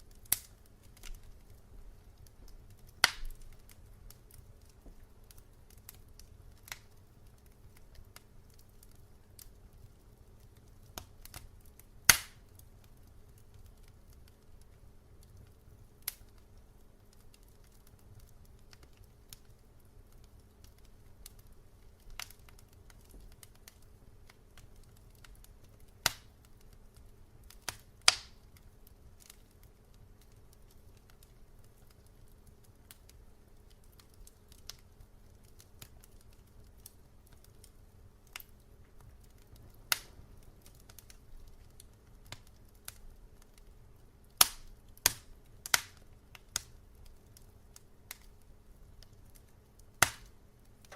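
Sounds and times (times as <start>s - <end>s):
fire crackling and popping: 0.0s - 50.9s
fire rumbling: 0.0s - 50.9s.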